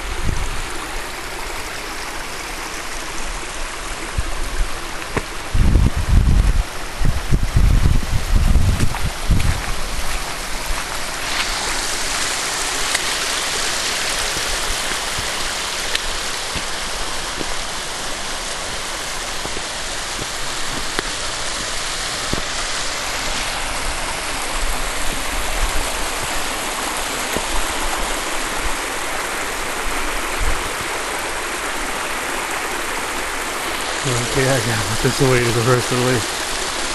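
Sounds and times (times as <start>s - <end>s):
creek rushing down cascade: 0.0s - 36.9s.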